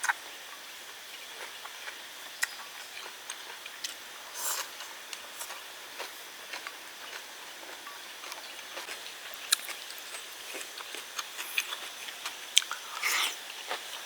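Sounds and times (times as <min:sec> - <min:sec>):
chewing crunches: 0:01.4 - 0:14.0.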